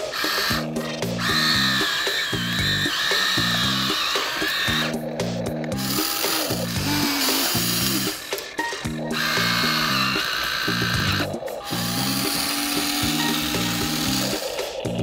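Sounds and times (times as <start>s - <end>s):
bouncy background music: 0.0s - 15.0s
toy motor whirring: 0.0s - 15.0s.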